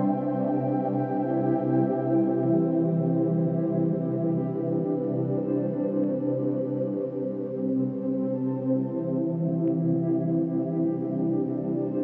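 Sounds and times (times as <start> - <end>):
calm background music: 0.0 - 12.0.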